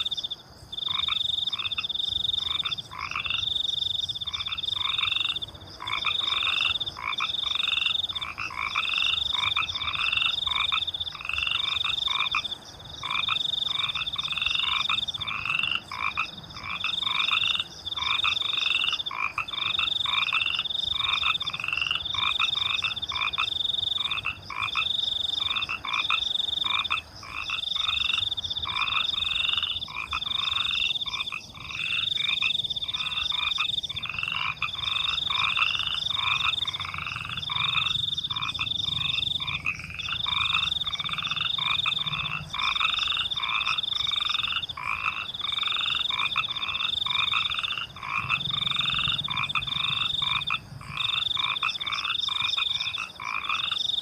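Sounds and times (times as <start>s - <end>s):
crickets trilling: 0.0s - 54.0s
frogs croaking: 0.0s - 54.0s.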